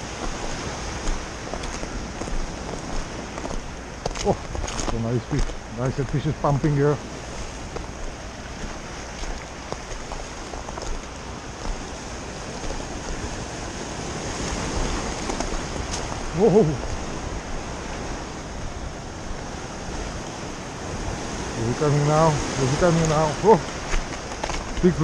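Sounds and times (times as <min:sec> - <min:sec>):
surf washing against rocks: 0:00.0 - 0:25.0
wind rumble on microphone: 0:00.0 - 0:25.0.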